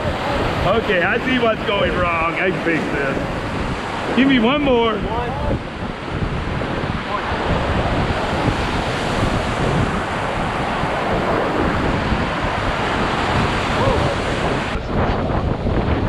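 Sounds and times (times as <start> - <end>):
whitewater rapids rushing: 0.0 - 15.0
wind buffeting microphone: 0.0 - 16.0.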